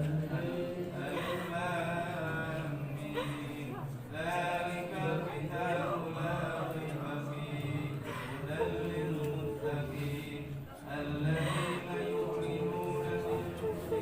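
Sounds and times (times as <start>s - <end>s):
men chanting prayers: 0.0s - 14.0s.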